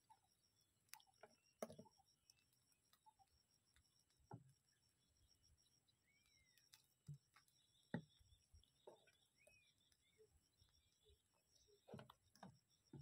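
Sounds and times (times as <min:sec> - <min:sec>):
faint chirp: 0:00.0 - 0:13.0.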